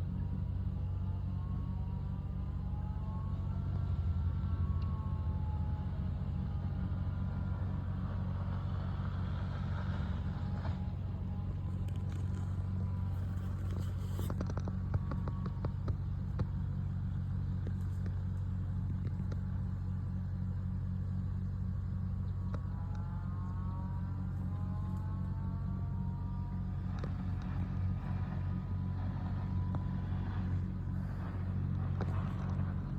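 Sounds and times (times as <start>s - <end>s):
tractor engine rumbling: 0.0s - 32.9s
whine sliding in pitch: 0.0s - 32.9s.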